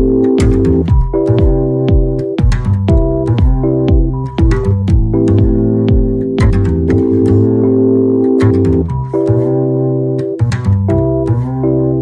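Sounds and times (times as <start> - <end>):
electronic music with synth: 0.0 - 12.0.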